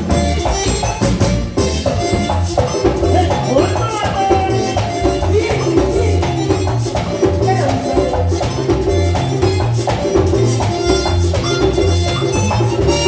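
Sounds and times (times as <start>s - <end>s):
accordion melody: 0.0s - 13.0s
drum dance beat: 0.0s - 13.0s
electric bass line: 0.0s - 13.0s
scraping guira: 0.0s - 13.0s.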